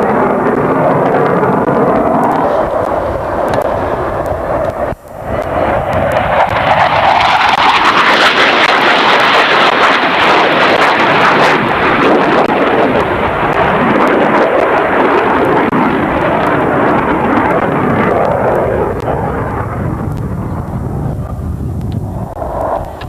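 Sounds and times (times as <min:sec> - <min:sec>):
aircraft engine roar: 0:00.0 - 0:23.0.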